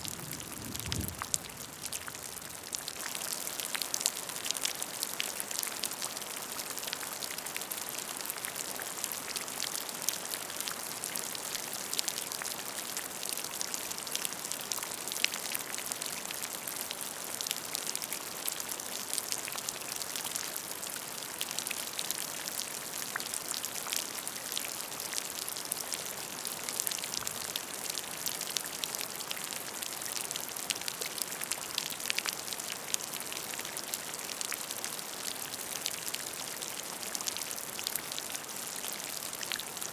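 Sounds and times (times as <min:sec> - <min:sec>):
rain falling: 0:00.0 - 0:39.9
raindrops pattering: 0:00.0 - 0:39.9.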